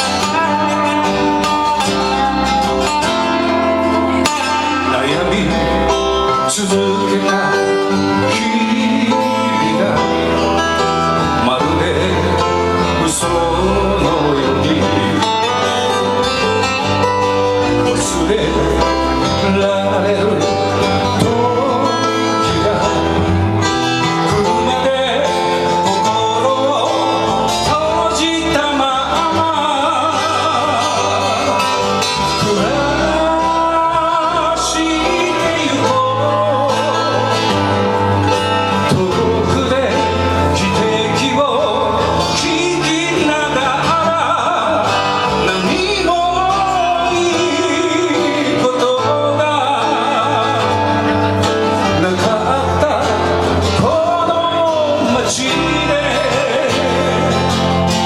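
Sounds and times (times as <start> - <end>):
guitar band music: 0.0 - 58.0.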